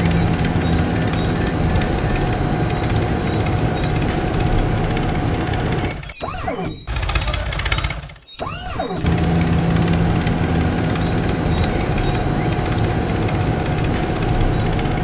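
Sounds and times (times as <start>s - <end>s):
small motor rattling: 0.0s - 15.0s.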